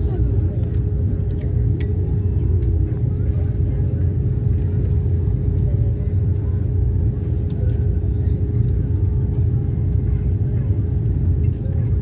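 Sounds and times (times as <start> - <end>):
airliner engines rumbling: 0.0 - 12.0
constant cabin hum: 0.0 - 12.0.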